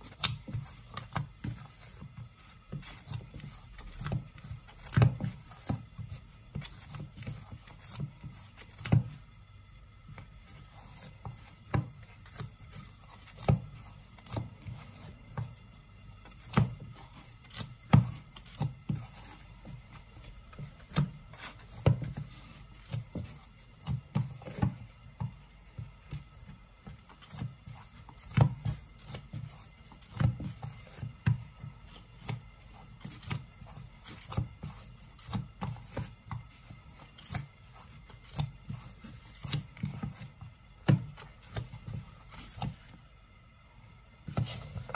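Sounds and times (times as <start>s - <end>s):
dough thumping in a bowl: 0.0s - 9.3s, 10.0s - 43.0s.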